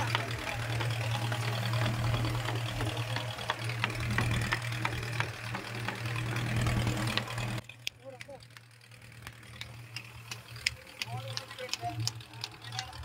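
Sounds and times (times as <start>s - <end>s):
boat engine droning: 0.0s - 13.0s
faint irregular ticks: 0.0s - 13.0s.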